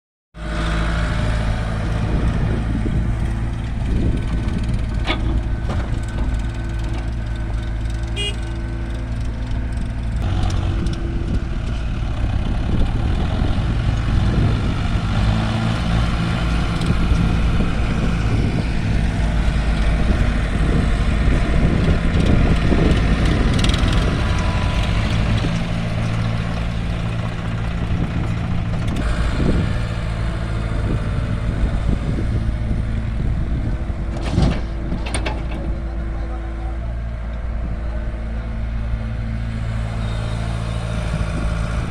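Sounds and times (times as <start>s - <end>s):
diesel engines running: 0.4s - 41.9s.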